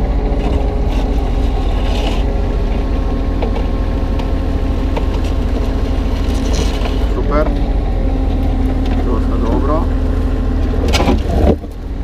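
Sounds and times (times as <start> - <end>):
diesel engine running: 0.0 - 12.0
hydraulic whine: 0.0 - 12.0.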